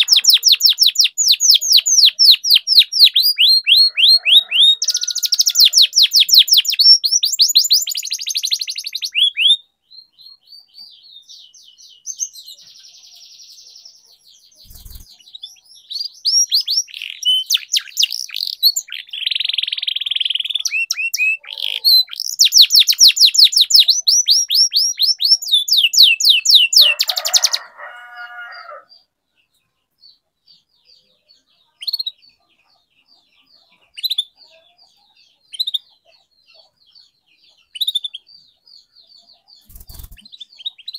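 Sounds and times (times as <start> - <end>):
canary singing trills: 0.0 - 40.9
faint bird chirps: 0.0 - 40.9.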